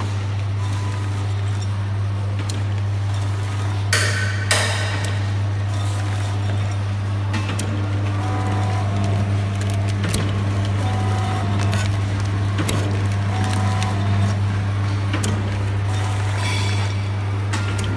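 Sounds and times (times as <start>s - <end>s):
packing machine humming: 0.0s - 17.9s.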